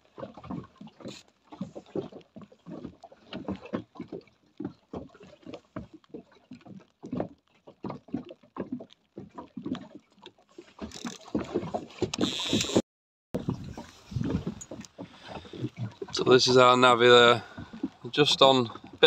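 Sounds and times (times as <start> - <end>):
water lapping against boat hull: 0.0 - 12.8, 13.4 - 19.0.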